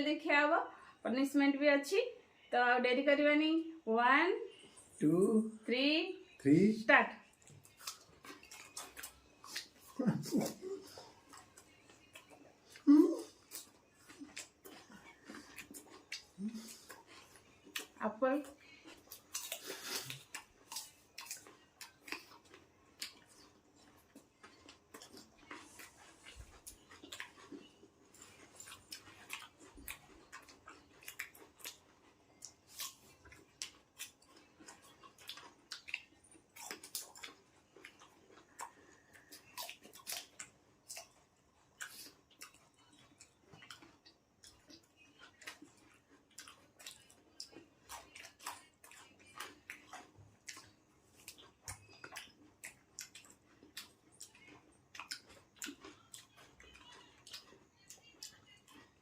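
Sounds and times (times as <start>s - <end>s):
apple being chewed: 7.3s - 59.0s.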